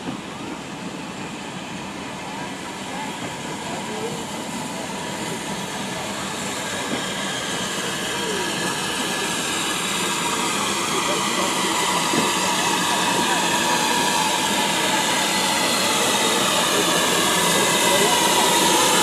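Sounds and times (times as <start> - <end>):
faint voices of onlookers: 0.0 - 19.0
steam train approaching: 0.0 - 19.0.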